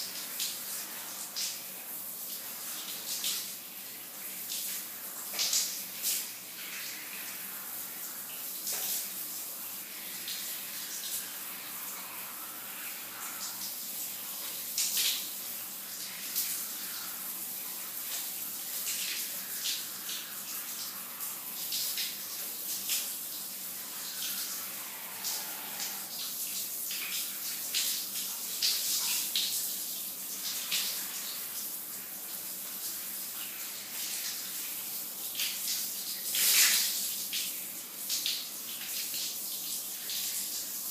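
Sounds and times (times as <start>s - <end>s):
shower spray hissing: 0.0s - 39.4s.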